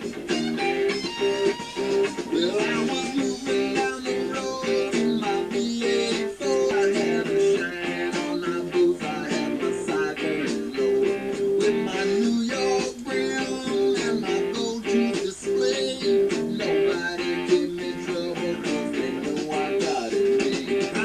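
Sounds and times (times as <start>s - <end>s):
guitar song on radio: 0.0s - 21.0s.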